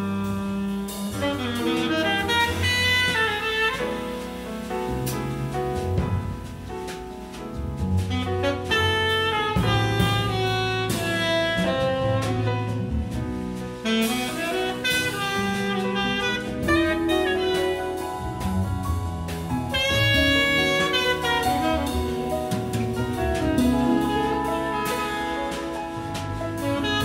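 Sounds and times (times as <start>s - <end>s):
tenor saxophone solo: 0.0s - 4.5s, 8.1s - 13.0s, 13.8s - 18.7s, 19.3s - 27.0s
jazz big band: 0.0s - 27.0s.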